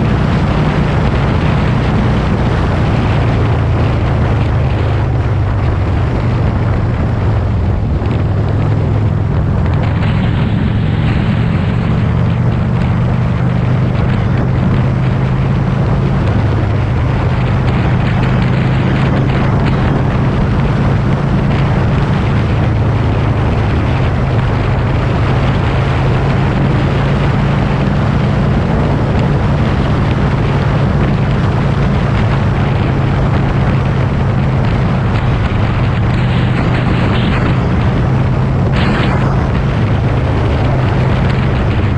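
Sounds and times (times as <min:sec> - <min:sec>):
vehicle engine running: 0:00.0 - 0:41.9
wind rushing over microphone: 0:00.0 - 0:41.9.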